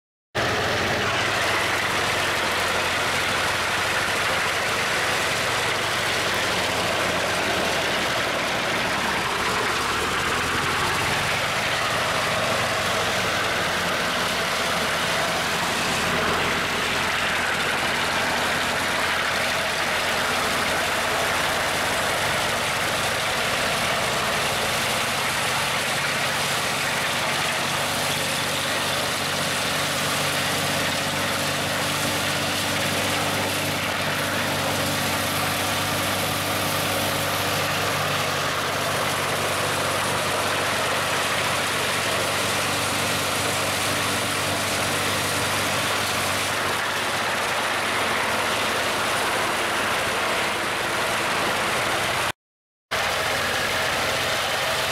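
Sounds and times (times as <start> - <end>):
wood chipper chipping boards: 0.4 - 52.3, 52.9 - 54.9
engine drone: 0.4 - 54.9.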